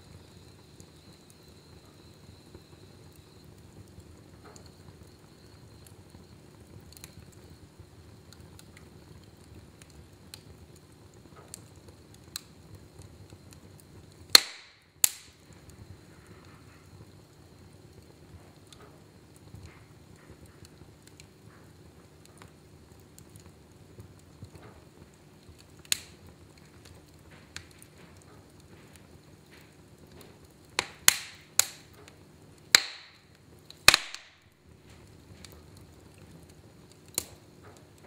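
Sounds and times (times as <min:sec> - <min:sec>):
fire crackling: 0:00.0 - 0:38.0
fire rumbling: 0:00.0 - 0:38.0
sharp fire pops: 0:00.1 - 0:38.0.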